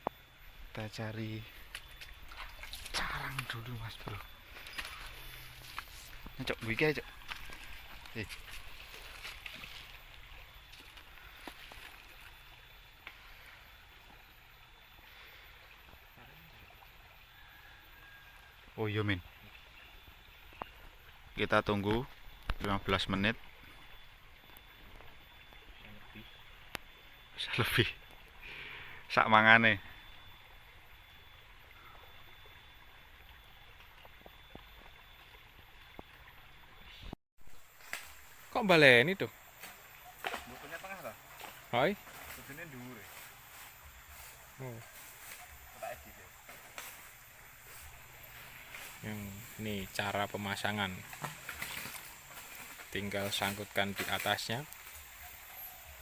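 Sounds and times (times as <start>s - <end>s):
small stream running: 0.0s - 56.0s.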